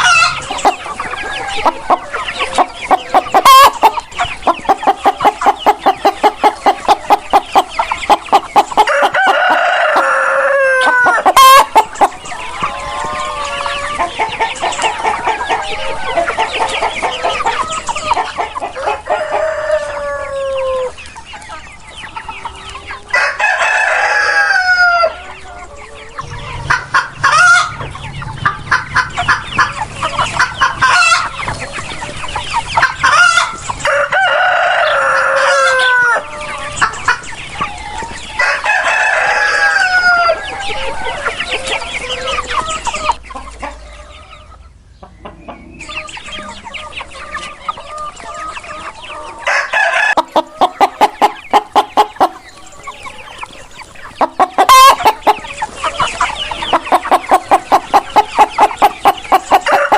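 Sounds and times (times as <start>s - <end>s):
roosters crowing: 0.0s - 44.6s, 45.4s - 59.9s
chickens clucking: 0.0s - 59.9s.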